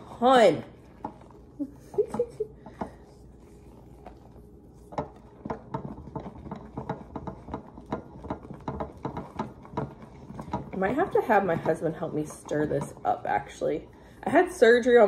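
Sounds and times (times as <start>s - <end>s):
spoon stirring in glass bowl: 0.2s - 15.0s.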